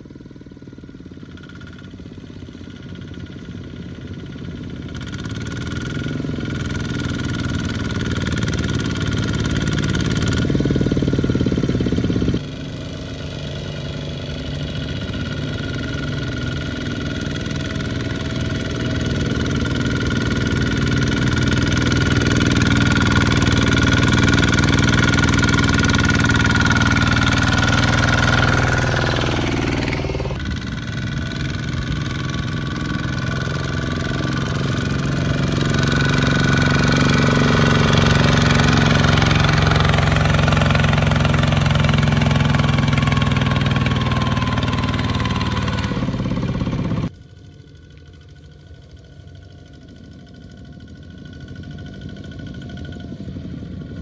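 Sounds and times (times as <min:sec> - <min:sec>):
walking tractor diesel engines: 0:00.0 - 0:54.0.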